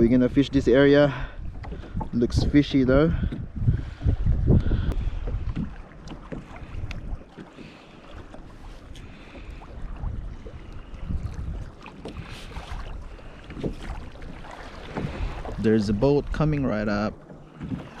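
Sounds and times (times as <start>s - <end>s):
wind buffeting microphone: 0.0s - 7.5s, 8.2s - 18.0s.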